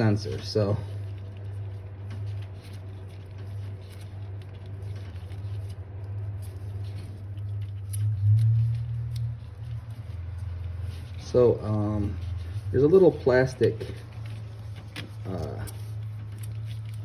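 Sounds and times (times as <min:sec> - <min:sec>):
low hum: 0:00.0 - 0:17.0
wire and conduit rustling: 0:00.0 - 0:17.0.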